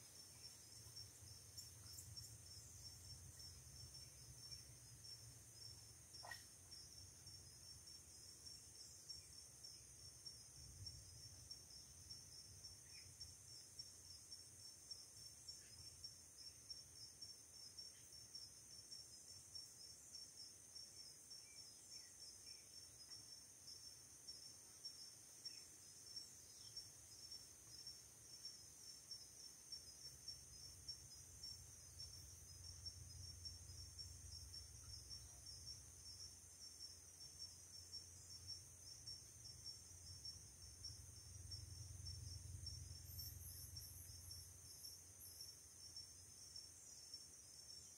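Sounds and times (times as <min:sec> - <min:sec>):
crickets and insects chirring: 0:00.0 - 0:47.9.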